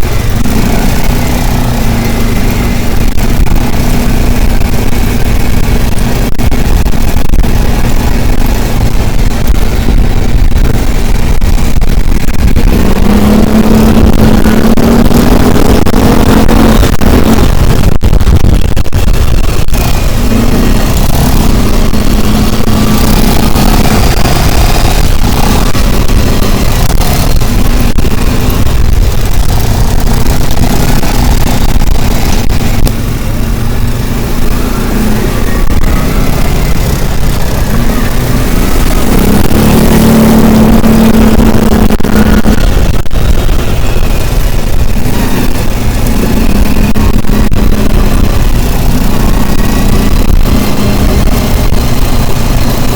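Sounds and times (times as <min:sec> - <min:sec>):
engine rumbling: 0:00.0 - 0:52.9
road noise: 0:00.0 - 0:52.9.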